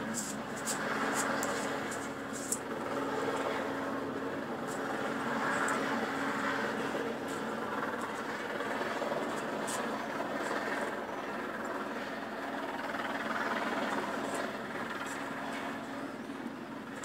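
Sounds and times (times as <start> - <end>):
distant helicopter drone: 0.0 - 17.0.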